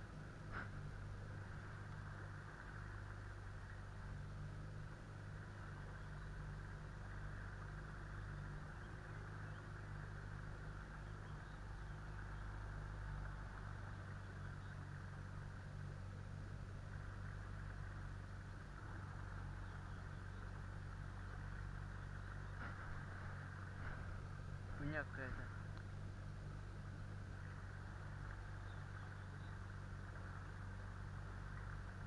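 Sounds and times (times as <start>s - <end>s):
outboard motor humming: 0.0s - 32.0s.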